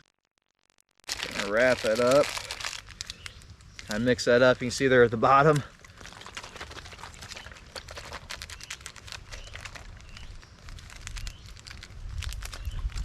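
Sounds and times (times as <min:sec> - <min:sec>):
plastic pouch crinkling: 0:00.0 - 0:13.0.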